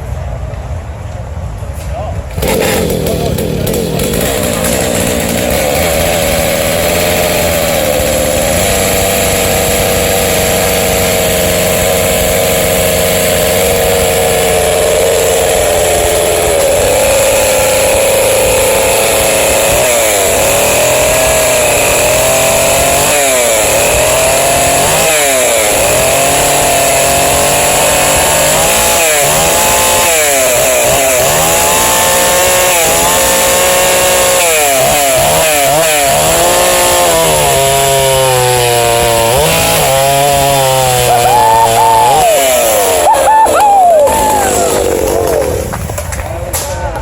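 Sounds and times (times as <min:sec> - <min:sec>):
chainsaw engine revving: 0:02.3 - 0:46.6.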